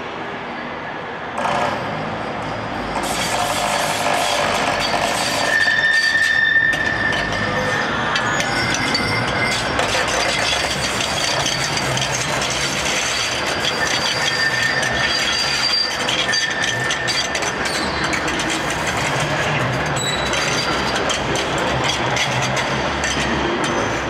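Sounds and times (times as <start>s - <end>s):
tram wheels rumbling on rail: 0.0s - 24.0s.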